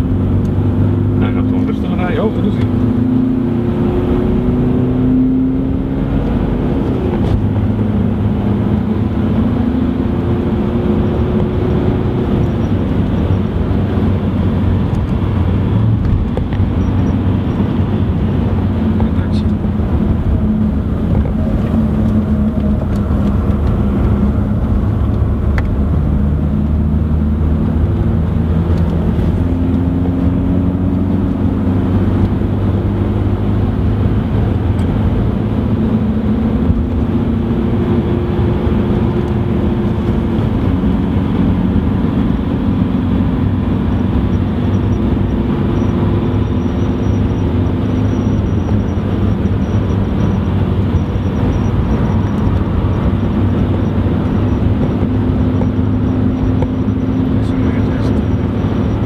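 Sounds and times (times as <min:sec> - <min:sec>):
car engine revving: 0:00.0 - 0:59.0
road and tyre noise: 0:00.0 - 0:59.0.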